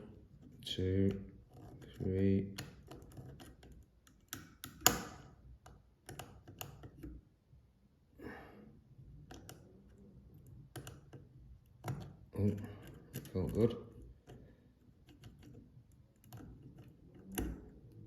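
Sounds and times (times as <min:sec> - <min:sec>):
lock pick clicking and scraping: 0:00.2 - 0:07.2, 0:09.1 - 0:18.0.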